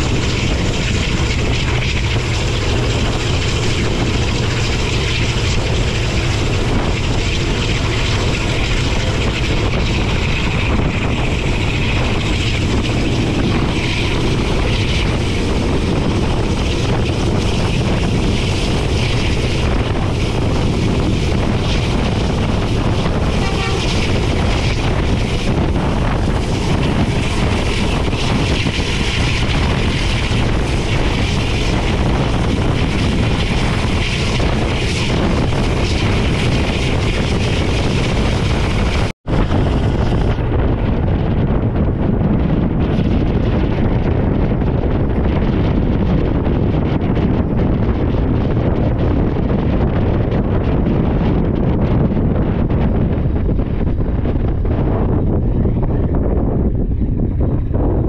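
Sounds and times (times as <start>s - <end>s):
rush of air: 0.0s - 58.0s
train wheels rumbling on rails: 0.0s - 58.0s.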